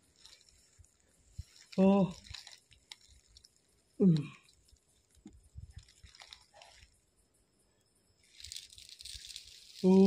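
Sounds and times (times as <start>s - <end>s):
faint rustles: 0.0s - 7.2s, 8.2s - 10.0s.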